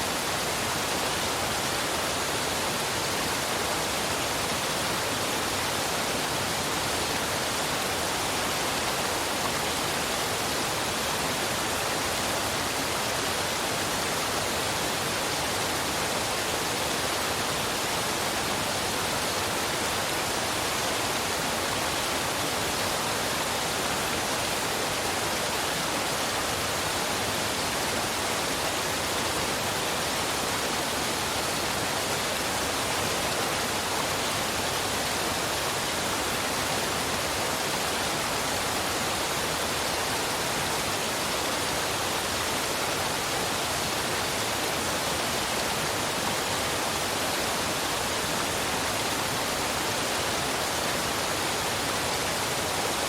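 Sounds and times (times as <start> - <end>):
waterfall and river rushing: 0.0 - 53.0.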